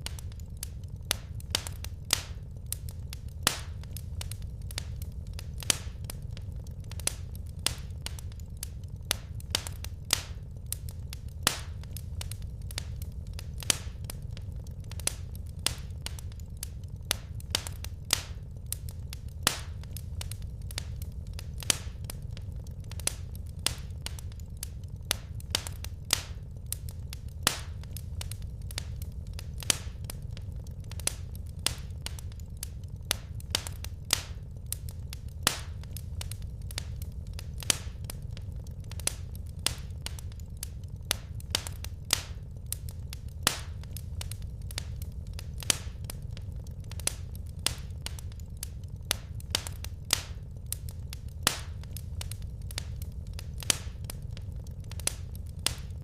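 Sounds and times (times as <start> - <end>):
low rumble of burning logs: 0.0 - 56.0
wood fire crackling and popping: 0.0 - 56.0.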